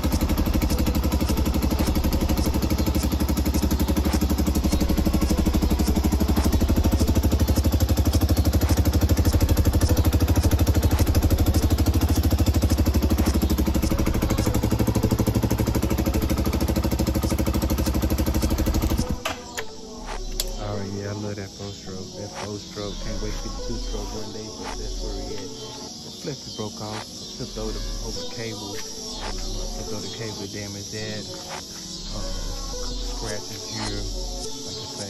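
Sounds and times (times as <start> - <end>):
motorcycle engine idling: 0.0 - 35.0.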